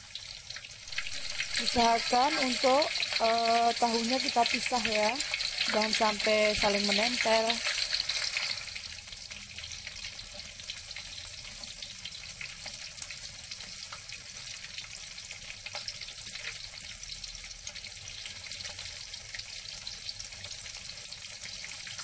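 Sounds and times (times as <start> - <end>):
tofu deep-frying in oil: 0.0 - 22.0.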